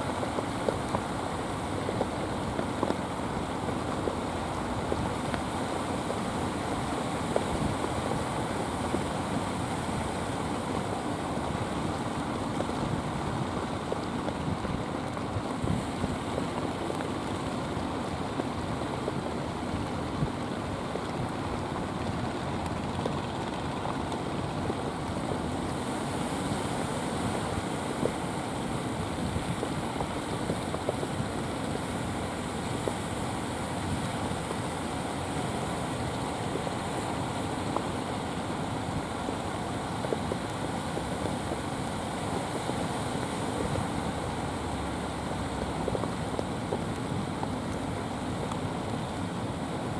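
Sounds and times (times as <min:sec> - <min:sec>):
surf on the shore: 0:00.0 - 0:49.9
wind: 0:00.0 - 0:49.9.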